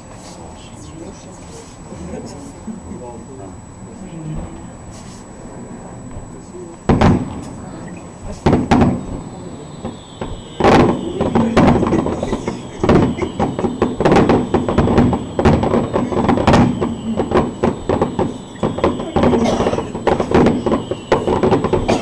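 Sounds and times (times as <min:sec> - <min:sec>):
fireworks exploding: 0:04.3 - 0:22.0.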